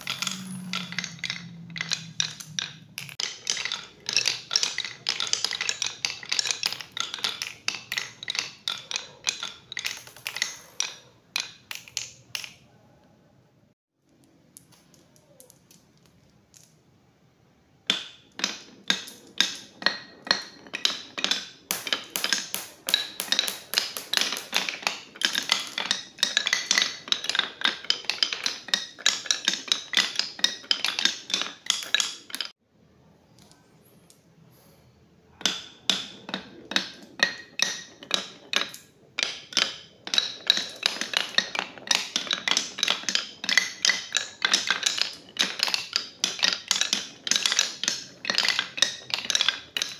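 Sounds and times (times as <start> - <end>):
marbles rolling on wooden track: 0.0 - 12.6, 17.9 - 32.6, 35.3 - 49.9.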